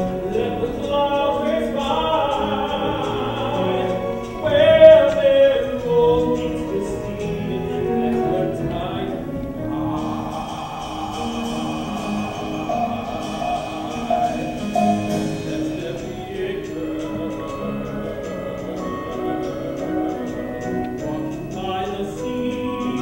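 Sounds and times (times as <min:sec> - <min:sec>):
stage singing with instruments: 0:00.0 - 0:23.0.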